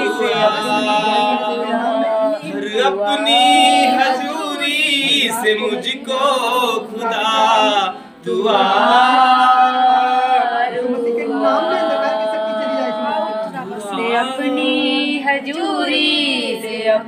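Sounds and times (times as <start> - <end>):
voices singing praise song: 0.0 - 17.0.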